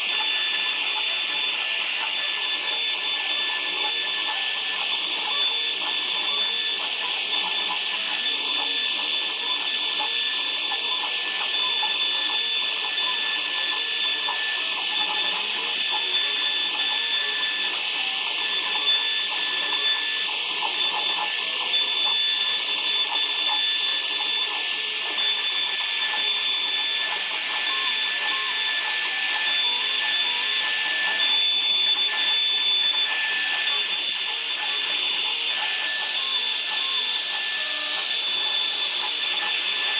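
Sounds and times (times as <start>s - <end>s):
woodworking power tool whining: 0.0s - 39.9s.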